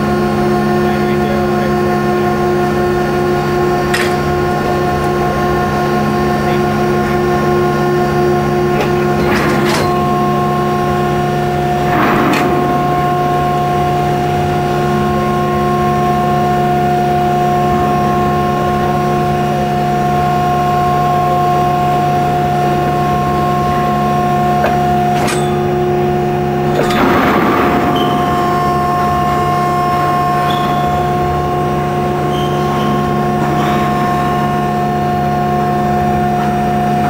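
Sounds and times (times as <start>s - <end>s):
railcar mover humming: 0.0s - 37.0s.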